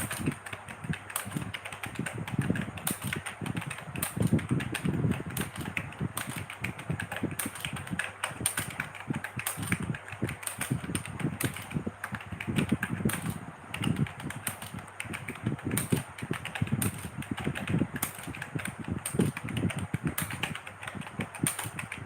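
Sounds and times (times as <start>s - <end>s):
keyboard key clicks: 0.0s - 22.0s.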